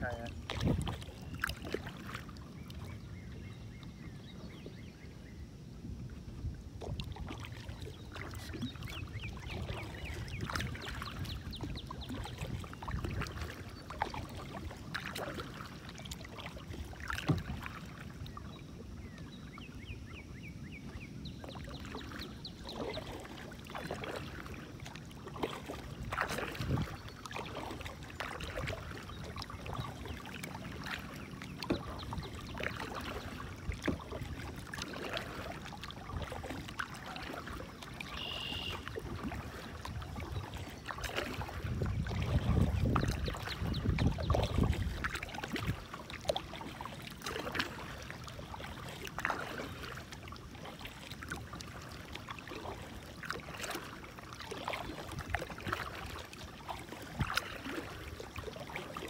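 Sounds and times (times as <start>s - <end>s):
paddle splashing in water: 0.0s - 59.0s.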